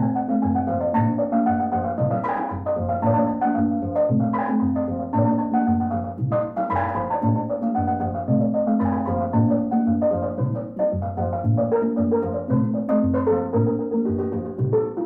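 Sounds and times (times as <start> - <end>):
bass line: 0.0 - 15.0
calypso steel drum melody: 0.0 - 15.0.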